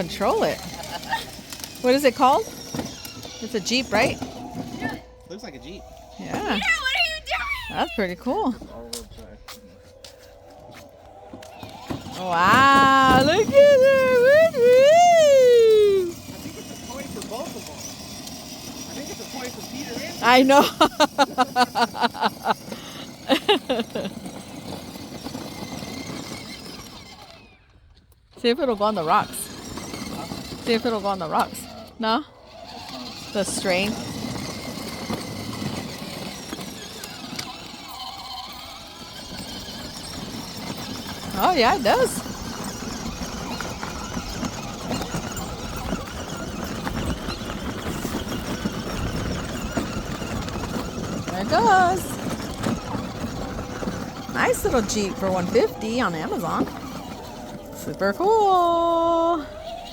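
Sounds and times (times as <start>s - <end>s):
plastic wheels clattering over rocks: 0.0s - 9.3s, 10.4s - 59.9s
electric motor whine: 0.0s - 59.9s.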